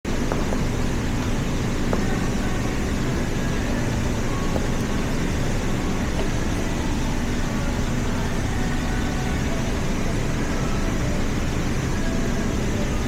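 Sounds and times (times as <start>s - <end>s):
low vehicle road rumble: 0.1s - 13.0s.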